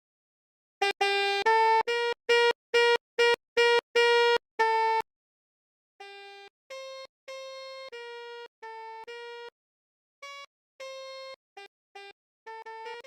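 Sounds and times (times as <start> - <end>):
melody bus horn: 0.8 - 5.1, 6.0 - 9.6, 10.2 - 13.0.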